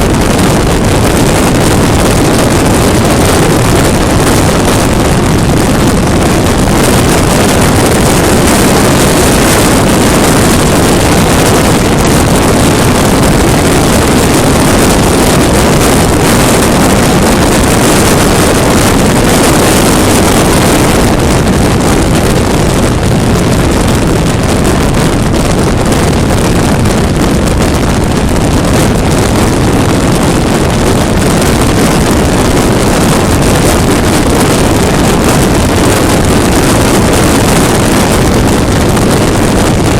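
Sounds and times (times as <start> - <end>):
motorcycle engine: 0.0 - 39.1
road noise: 0.0 - 39.9
wind roaring over microphone: 0.0 - 39.9.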